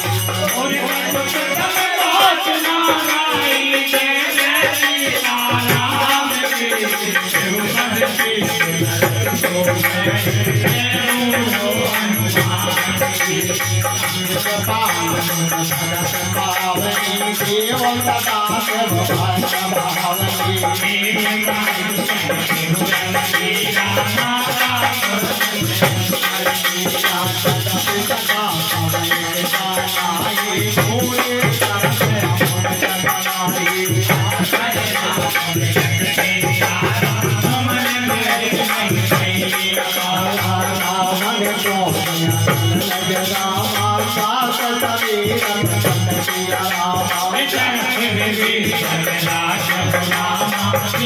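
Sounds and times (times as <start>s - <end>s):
harmonium: 0.0s - 51.0s.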